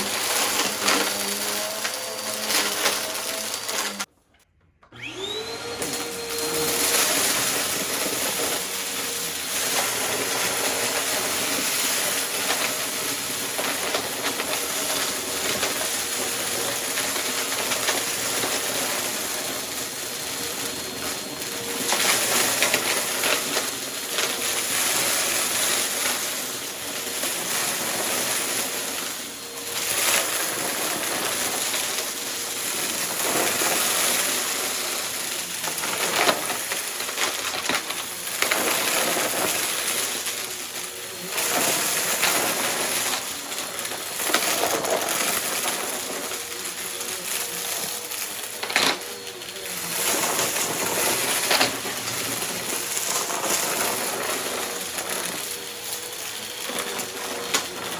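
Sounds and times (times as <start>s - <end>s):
debris crunching and rattling: 0.0s - 4.1s, 5.9s - 57.9s
vacuum cleaner running: 0.0s - 4.1s, 4.8s - 57.9s.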